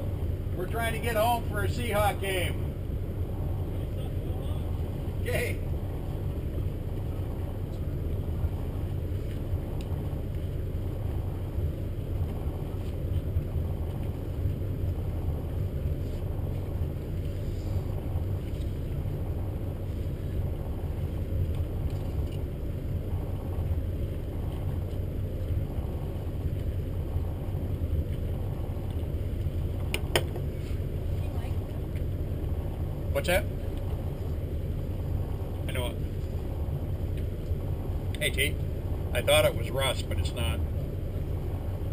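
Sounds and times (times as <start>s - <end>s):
boat engine idling: 0.0s - 41.9s.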